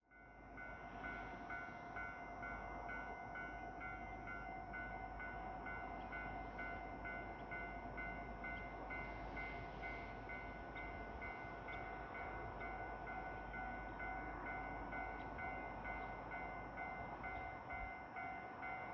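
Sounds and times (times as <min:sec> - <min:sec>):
level crossing warning bell: 0:00.1 - 0:18.9.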